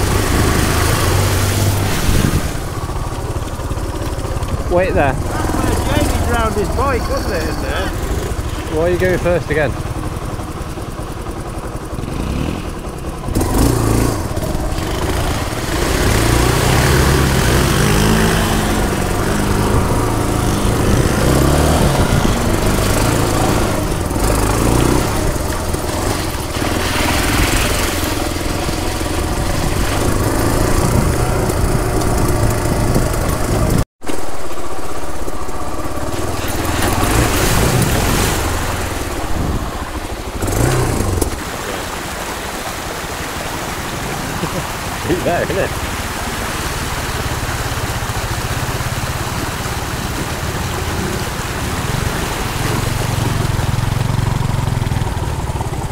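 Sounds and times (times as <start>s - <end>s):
motorcycle engine revving: 0.0s - 42.4s, 43.9s - 55.9s.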